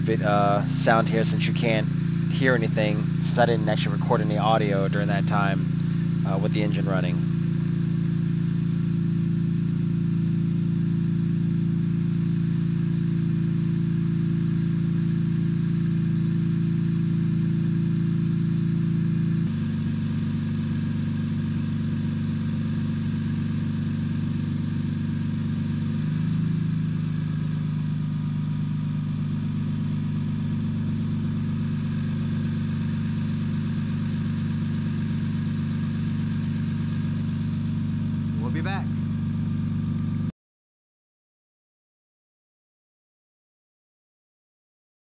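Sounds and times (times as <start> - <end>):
car engine idling: 0.0 - 40.3.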